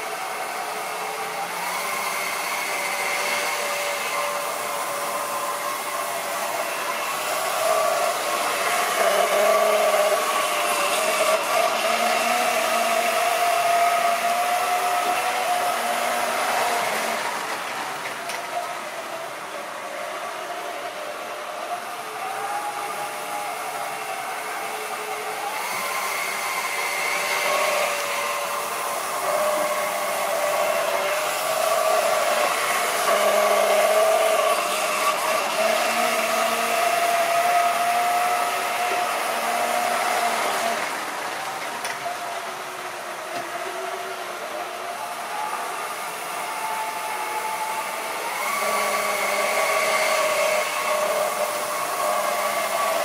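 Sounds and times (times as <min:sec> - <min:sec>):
electric motor whining: 0:00.0 - 0:53.0.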